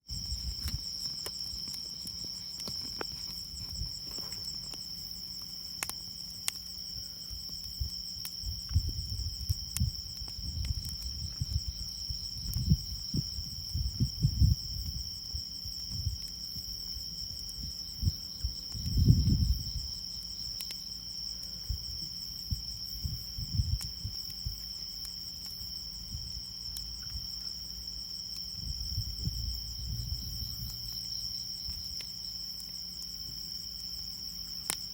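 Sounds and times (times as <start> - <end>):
crickets trilling: 0.0 - 34.9
wood fire crackling: 0.0 - 34.9.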